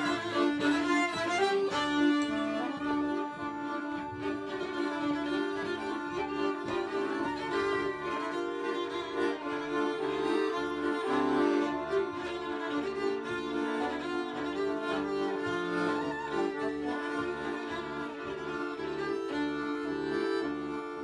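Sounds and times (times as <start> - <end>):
accordion: 0.0 - 21.0
violins playing long notes: 0.0 - 21.0.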